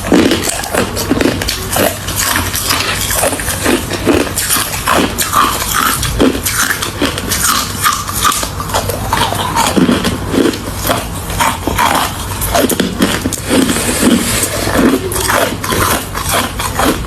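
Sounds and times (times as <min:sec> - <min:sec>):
chewing crushed ice: 0:00.0 - 0:17.0.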